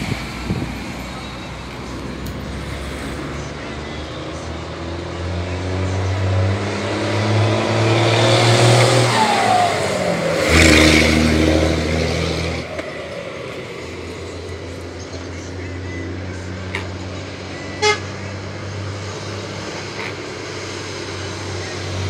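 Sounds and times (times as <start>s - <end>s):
truck engine running: 0.0s - 6.2s, 9.2s - 22.0s.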